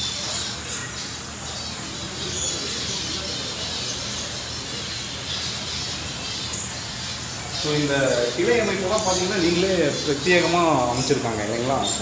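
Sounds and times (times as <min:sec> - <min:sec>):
cage birds chirping: 0:00.0 - 0:12.0.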